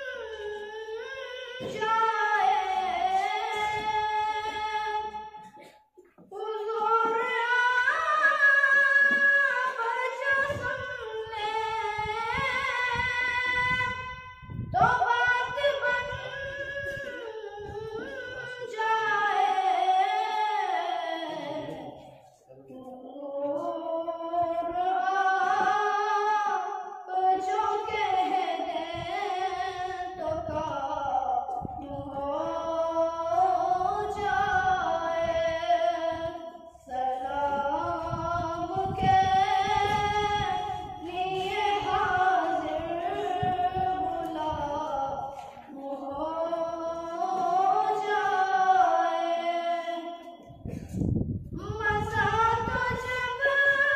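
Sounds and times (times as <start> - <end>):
boy singing devotional song: 0.0 - 53.9.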